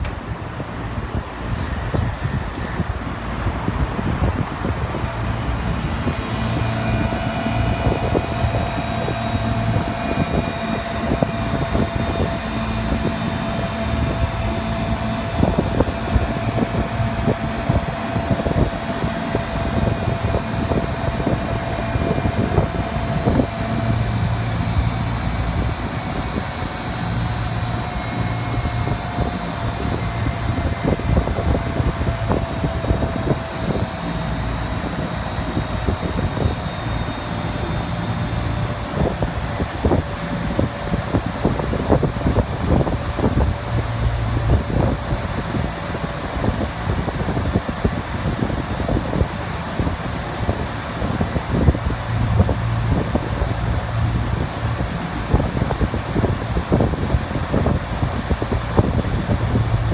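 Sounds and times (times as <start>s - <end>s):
machine drone with whine: 0.0s - 59.9s.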